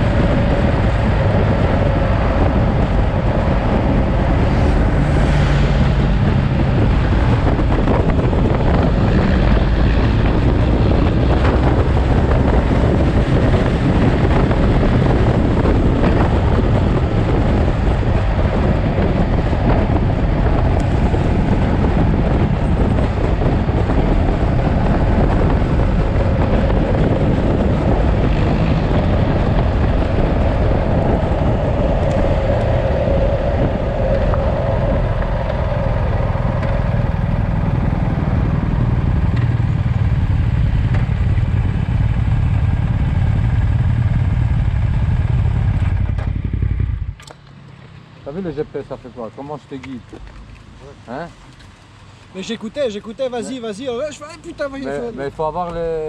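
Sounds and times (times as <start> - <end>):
wind rush on microphone: 0.0 - 47.2
motorcycle engine running: 0.0 - 48.3.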